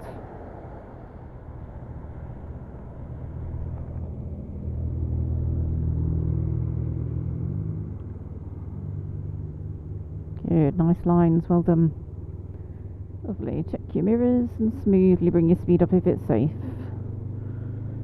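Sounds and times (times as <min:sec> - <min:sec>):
road noise hiss: 0:00.0 - 0:18.0
motorcycle engine running: 0:03.4 - 0:18.0.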